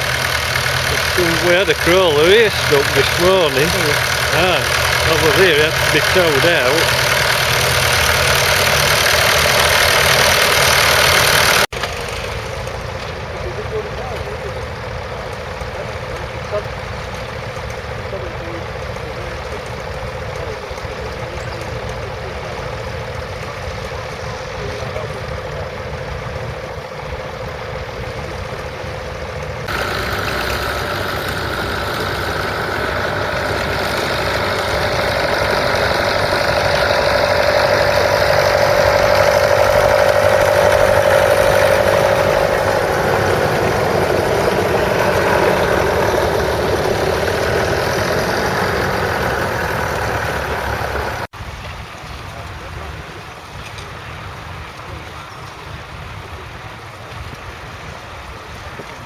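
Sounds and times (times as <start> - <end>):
crawler tractor engine running: 0.0 - 59.0.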